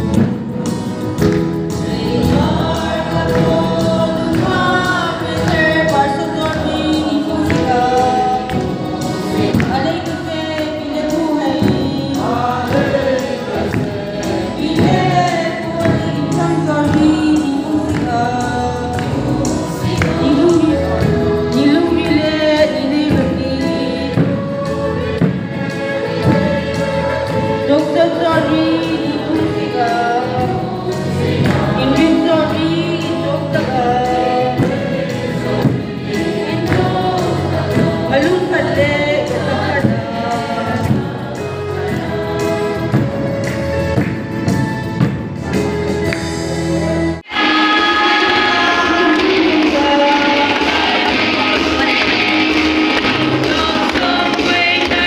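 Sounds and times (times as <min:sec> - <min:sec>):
young people singing in chorus: 0:00.0 - 0:44.1, 0:46.6 - 0:55.0.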